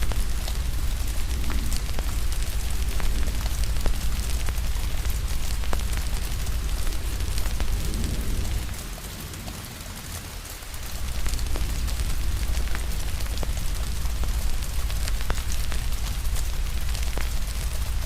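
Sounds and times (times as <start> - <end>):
low rumble: 0.0 - 9.7, 10.8 - 18.0
crackling fire pops: 0.0 - 18.0
steady rain hiss: 0.0 - 18.0.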